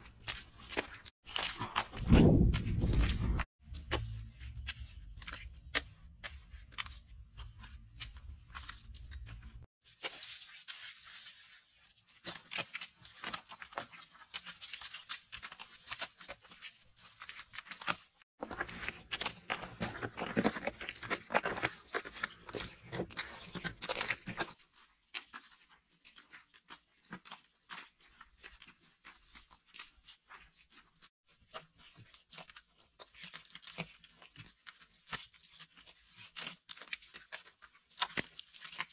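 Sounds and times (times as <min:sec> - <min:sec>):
hands slapping and smearing wet mud: 0:00.0 - 0:38.9.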